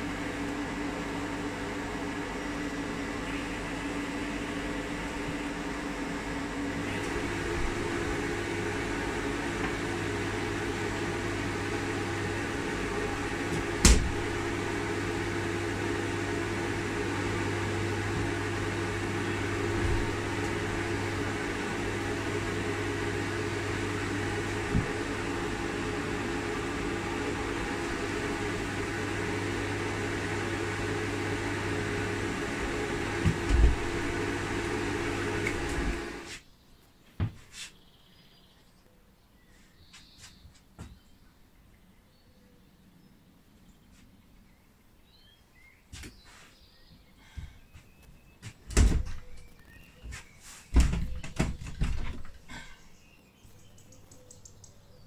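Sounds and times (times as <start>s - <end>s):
electric fan humming: 0.0s - 36.6s, 42.9s - 55.0s.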